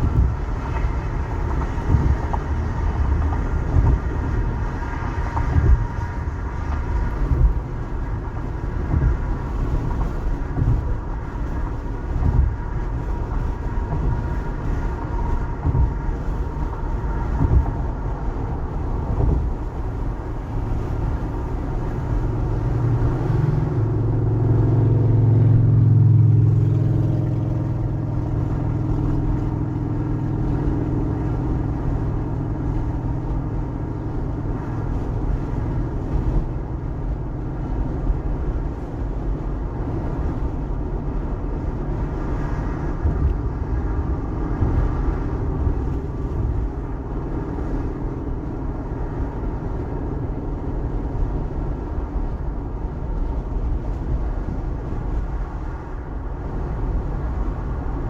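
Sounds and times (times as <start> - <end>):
low engine rumble: 0.0 - 58.0
road and tyre noise: 0.0 - 58.0.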